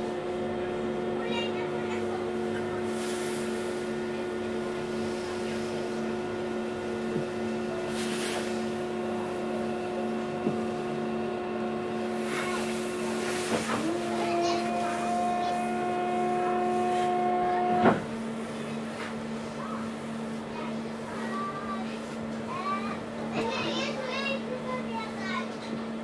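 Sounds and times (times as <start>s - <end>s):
boat engines droning: 0.0s - 25.6s.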